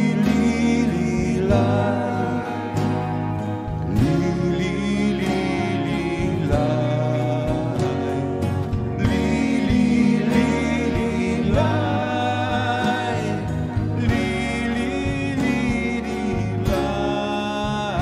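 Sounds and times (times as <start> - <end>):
acoustic guitar: 0.0 - 18.0
bass guitar: 0.0 - 18.0
drum kit: 0.0 - 18.0
electric guitar: 0.0 - 18.0
man singing: 0.0 - 18.0
rock band playing live: 0.0 - 18.0.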